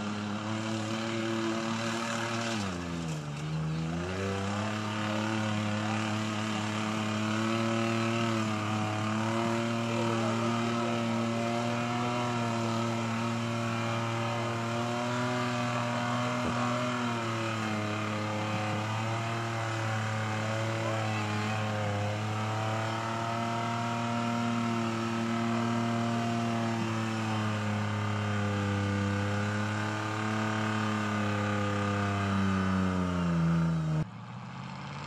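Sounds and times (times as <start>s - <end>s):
truck engine revving: 0.0s - 34.1s.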